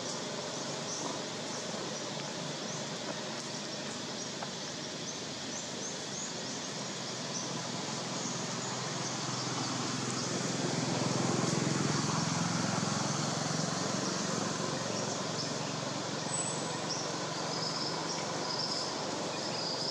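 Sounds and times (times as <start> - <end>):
background hiss: 0.0 - 19.9.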